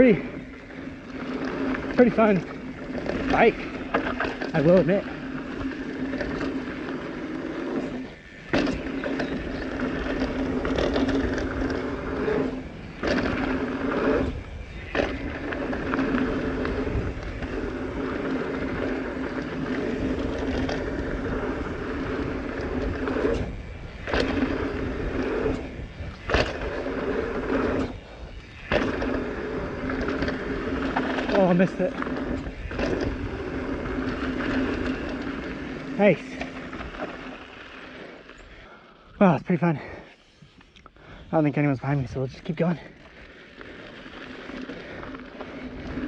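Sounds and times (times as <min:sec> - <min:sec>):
bike tyres rolling on dirt: 0:00.0 - 0:46.0.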